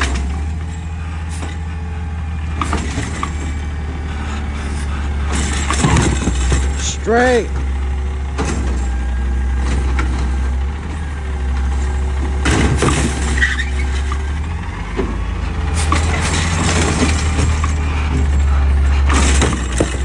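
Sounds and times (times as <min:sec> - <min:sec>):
garbage truck diesel engine rumbling: 0:00.0 - 0:20.0
metallic clanks and knocks: 0:00.0 - 0:20.0.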